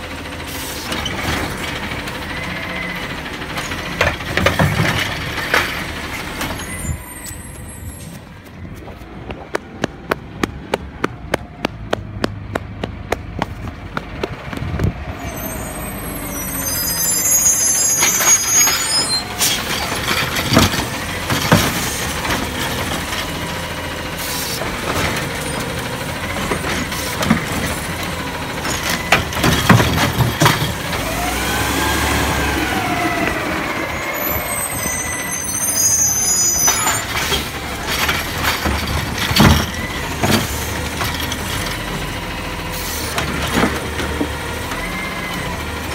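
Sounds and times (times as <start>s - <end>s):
garbage truck running: 0.0s - 45.9s.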